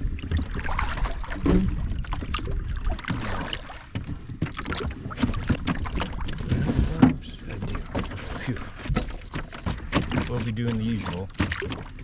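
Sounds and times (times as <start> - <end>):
paddle strokes knocking and splashing: 0.0 - 12.0.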